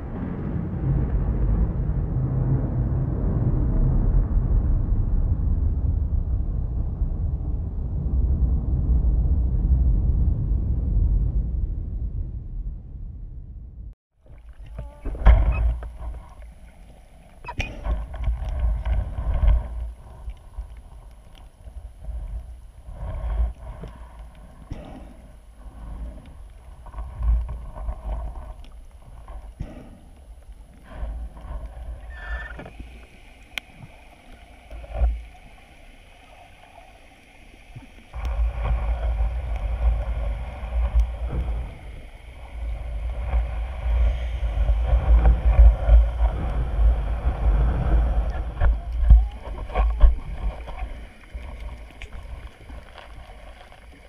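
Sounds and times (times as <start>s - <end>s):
muffled underwater water rumbling: 0.0s - 54.0s.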